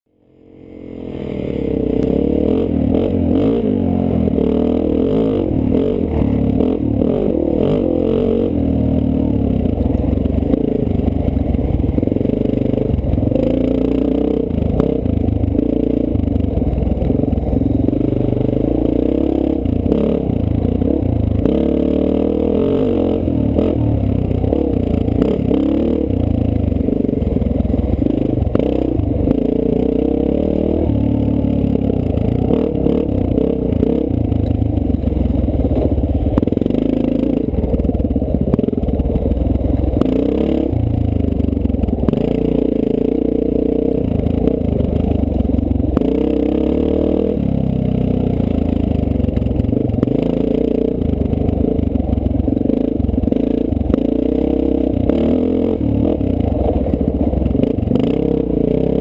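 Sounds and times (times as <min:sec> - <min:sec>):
dirt bike engine revving: 0:00.9 - 0:39.0, 0:39.8 - 0:48.5, 0:49.2 - 0:59.0.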